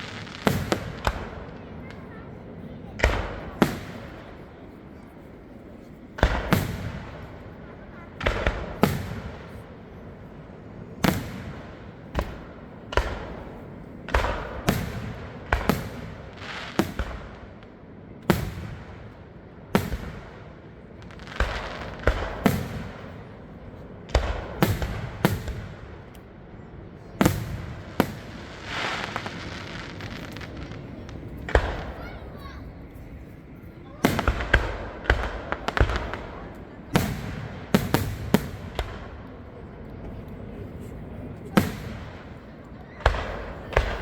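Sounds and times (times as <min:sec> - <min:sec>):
fireworks crackle: 0:00.0 - 0:26.3, 0:27.2 - 0:44.0.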